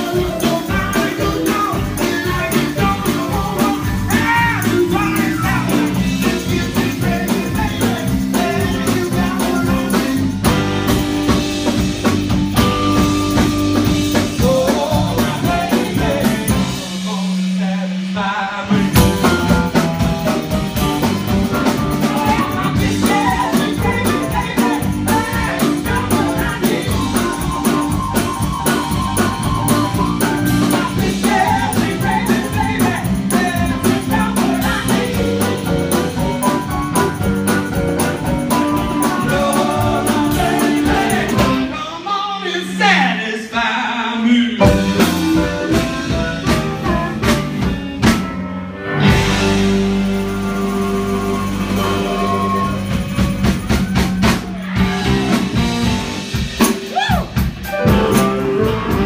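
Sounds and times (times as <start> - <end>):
blues band playing: 0.0 - 43.3, 44.3 - 59.0.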